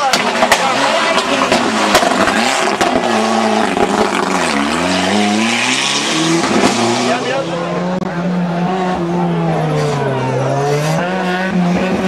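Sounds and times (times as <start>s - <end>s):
rally car engine accelerating: 0.0s - 12.0s.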